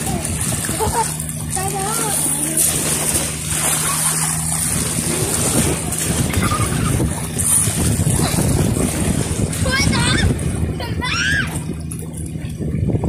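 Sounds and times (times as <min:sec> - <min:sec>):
small waves washing ashore: 0:00.0 - 0:13.0
wind buffeting microphone: 0:00.0 - 0:13.0.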